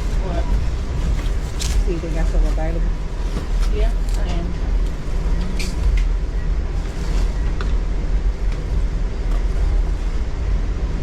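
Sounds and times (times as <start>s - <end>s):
train rumbling from inside: 0.0s - 11.0s.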